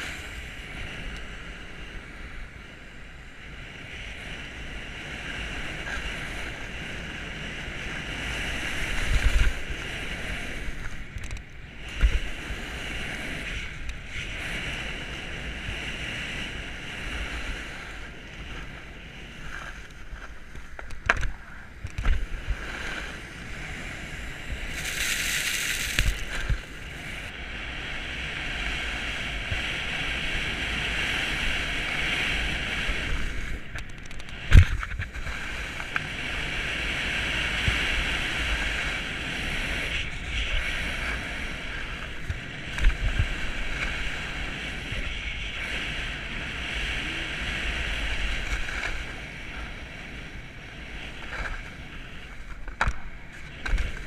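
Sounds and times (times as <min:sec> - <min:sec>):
snowboard scraping over snow: 0:00.0 - 0:54.0
wind on microphone: 0:00.0 - 0:54.0.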